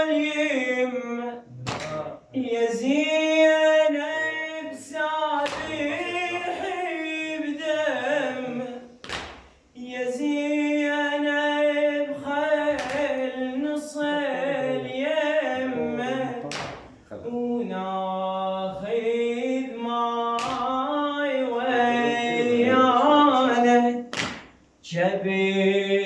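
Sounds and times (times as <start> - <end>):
person chanting a lament: 0.0 - 8.9, 9.8 - 24.0.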